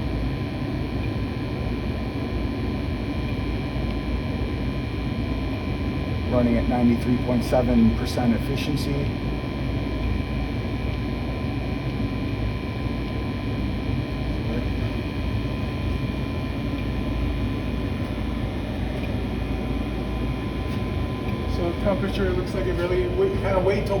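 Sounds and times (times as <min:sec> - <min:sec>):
faint steady whine: 0:00.0 - 0:24.0
furnace burners and blower rumbling: 0:00.0 - 0:24.0.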